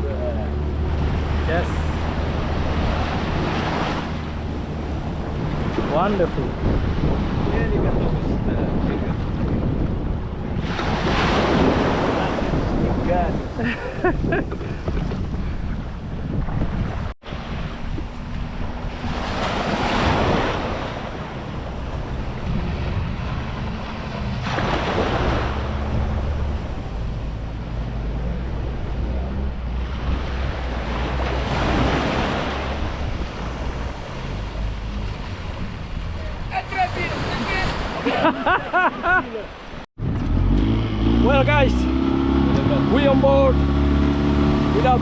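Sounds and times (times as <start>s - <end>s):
outboard motor running: 0.0s - 7.8s, 14.2s - 37.5s, 40.0s - 45.0s
wind buffeting microphone: 0.0s - 38.8s, 39.7s - 45.0s
waves washing: 0.0s - 45.0s.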